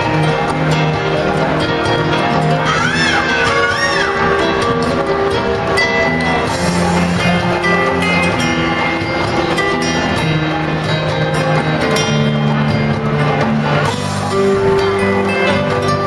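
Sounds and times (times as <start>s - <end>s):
show music with plucked strings: 0.0s - 16.0s.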